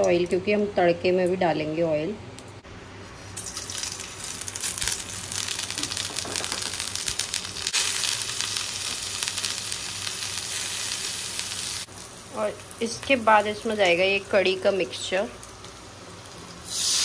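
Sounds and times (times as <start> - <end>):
spices sizzling in hot oil: 3.2 - 17.0.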